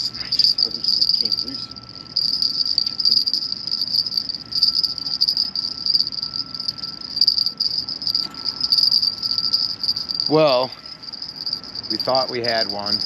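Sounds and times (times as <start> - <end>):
crickets and insects chirring: 0.0 - 13.0
faint mid-pitched tone: 0.0 - 13.0.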